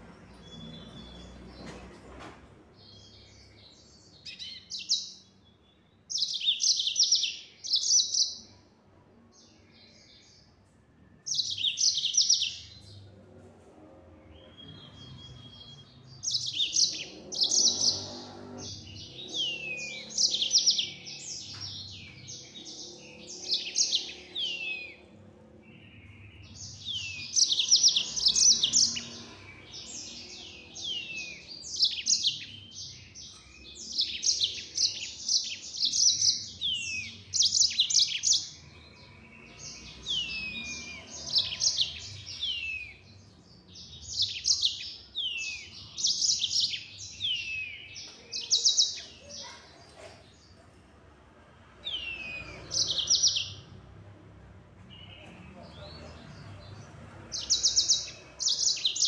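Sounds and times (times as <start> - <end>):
canary singing: 0.0 - 1.8, 2.7 - 8.7, 11.1 - 49.8, 51.8 - 54.1, 54.9 - 59.0.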